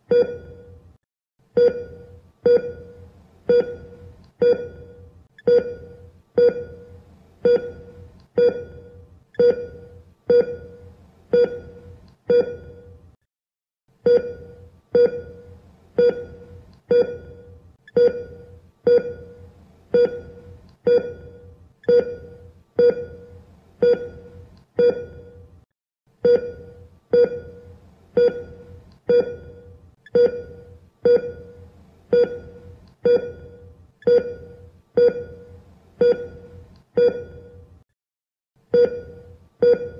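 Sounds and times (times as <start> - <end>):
patient monitor beeping: 0.1 - 0.8, 1.6 - 13.0, 14.1 - 25.4, 26.2 - 37.7, 38.8 - 39.9.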